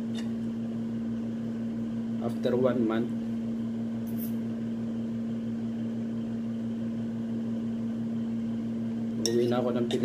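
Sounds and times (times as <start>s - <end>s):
appliance mechanical hum: 0.0s - 10.0s.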